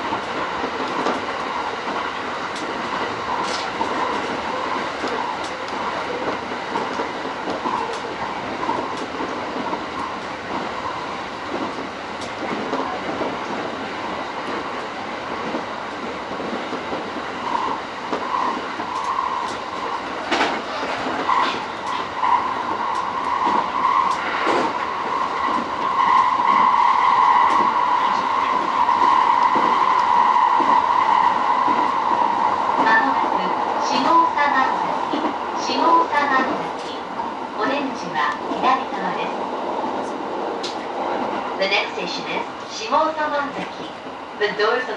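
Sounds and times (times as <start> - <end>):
rail joint clicks: 0.0 - 44.2
train wheels rumbling on rails: 0.0 - 44.9.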